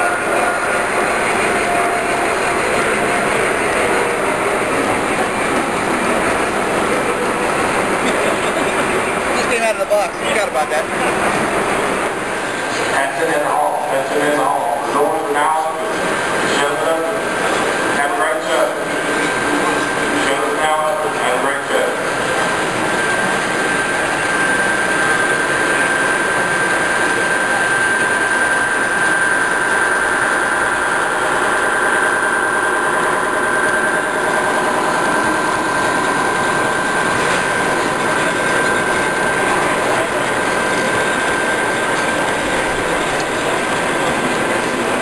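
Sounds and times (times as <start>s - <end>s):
hubbub of crowded hall: 0.0s - 45.0s
model train rolling on track: 0.0s - 45.0s.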